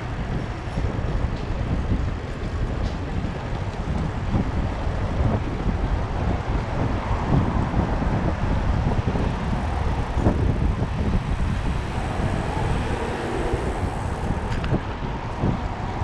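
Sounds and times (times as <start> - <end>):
background traffic: 0.0 - 16.0
wind and road noise: 0.0 - 16.0.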